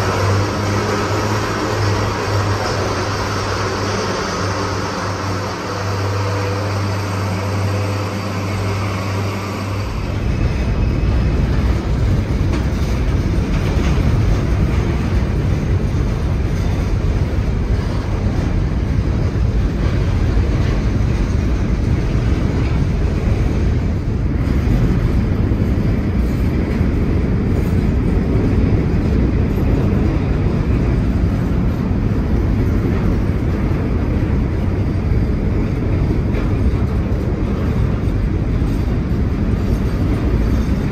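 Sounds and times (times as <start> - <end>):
low engine hum: 0.0 - 40.9
train passing rumble: 0.0 - 40.9.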